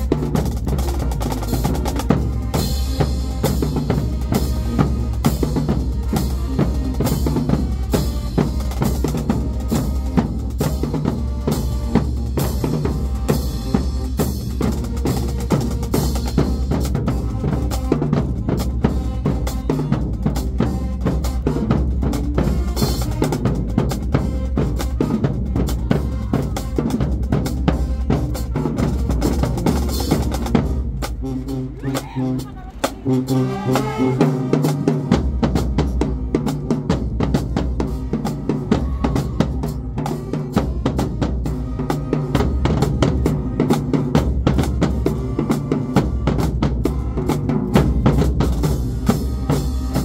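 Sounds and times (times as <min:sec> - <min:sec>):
drumline playing: 0:00.0 - 0:50.0.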